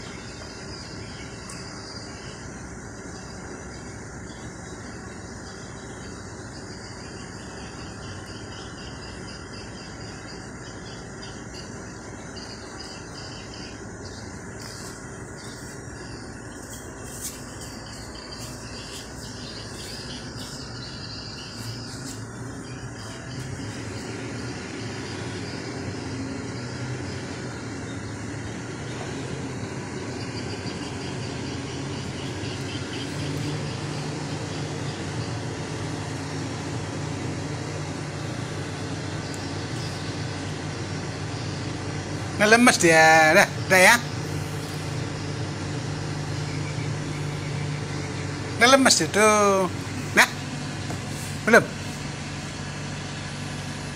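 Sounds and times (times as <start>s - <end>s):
insects chirring: 0.0s - 53.9s
low mechanical hum: 0.0s - 53.9s.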